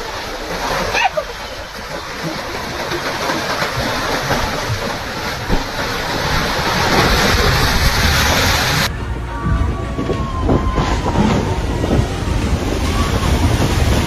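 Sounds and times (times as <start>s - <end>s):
ocean waves breaking: 0.0s - 14.0s
dull low rumble: 1.8s - 14.0s.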